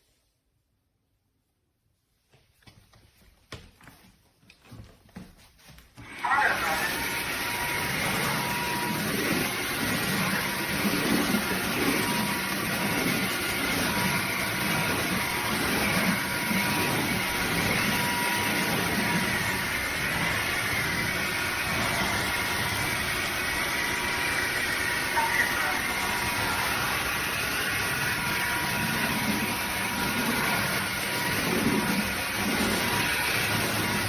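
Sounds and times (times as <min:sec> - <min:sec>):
vacuum mop motor whining: 0:04.6 - 0:34.0.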